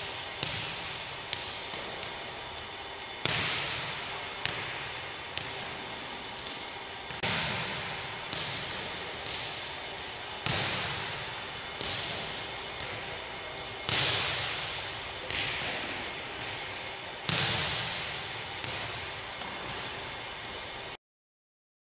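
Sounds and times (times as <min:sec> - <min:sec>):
volleyballs thumping on gym floor: 0:00.0 - 0:06.5, 0:07.1 - 0:20.9.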